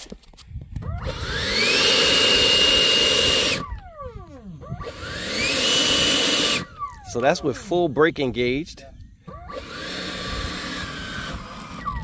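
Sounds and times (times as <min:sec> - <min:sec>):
electric ducted fan whine: 0:00.8 - 0:12.0.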